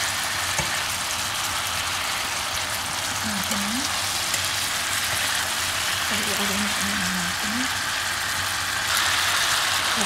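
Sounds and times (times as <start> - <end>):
chicken sizzling in skillet: 0.0 - 10.0.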